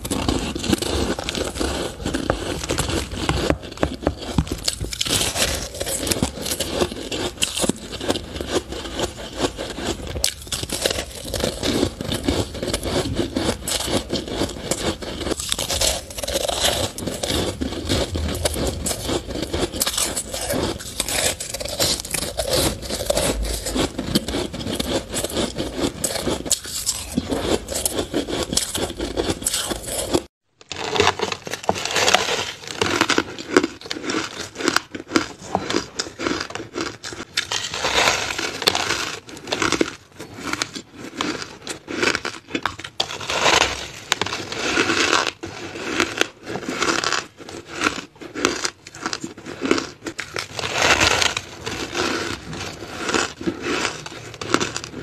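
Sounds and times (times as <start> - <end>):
crunching ice: 0.0 - 55.0.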